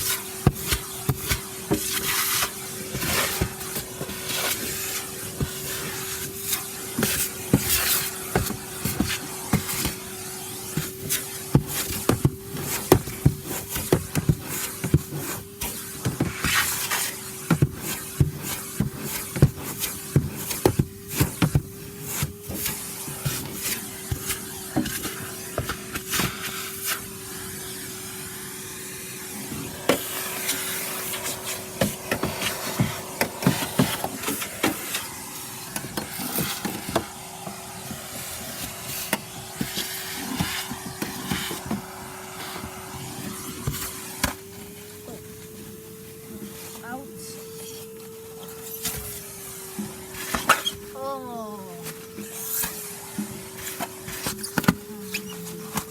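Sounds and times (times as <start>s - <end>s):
vacuum cleaner whine: 0.0s - 55.9s.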